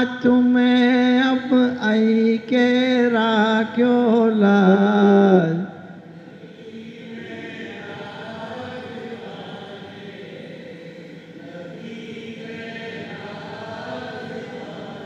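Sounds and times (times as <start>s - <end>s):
men chanting together: 2.4s - 15.0s.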